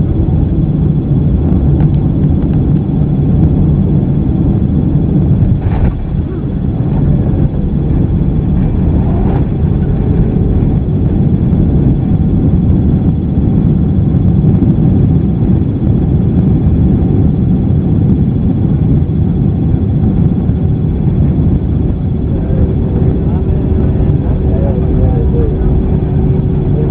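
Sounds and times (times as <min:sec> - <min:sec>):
jet engines rumbling in cabin: 0:00.0 - 0:26.9.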